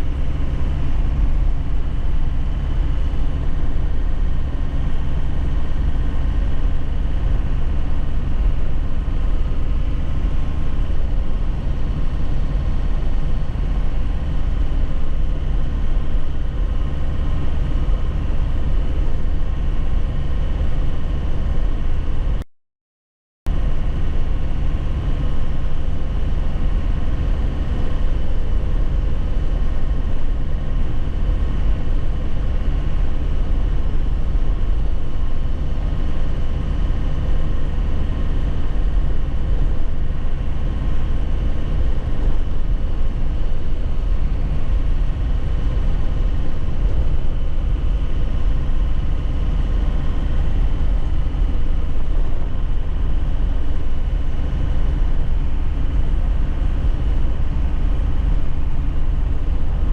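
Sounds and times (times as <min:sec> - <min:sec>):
truck engine rumbling in cab: 0:00.0 - 0:22.4, 0:23.5 - 0:59.9.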